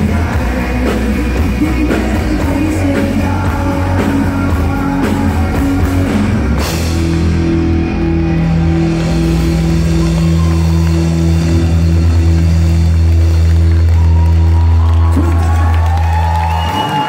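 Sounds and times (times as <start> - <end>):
rock band playing loudly: 0.0 - 17.0.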